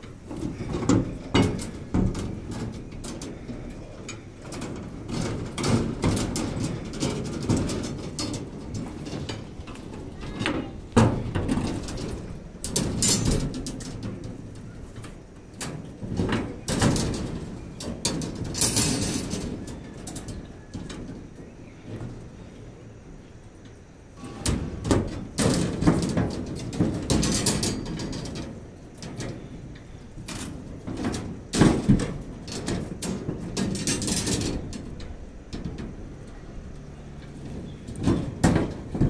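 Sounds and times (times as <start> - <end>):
steel bars knocking and clinking: 0.0 - 21.2, 24.2 - 36.4.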